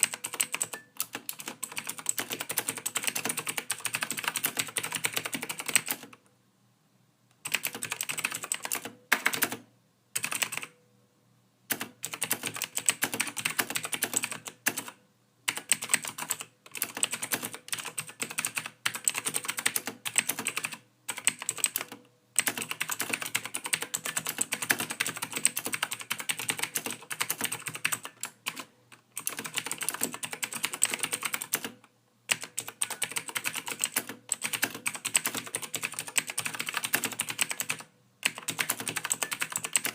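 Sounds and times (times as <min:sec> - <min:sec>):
keyboard typing: 0:00.0 - 0:06.3, 0:07.4 - 0:10.8, 0:11.7 - 0:39.9.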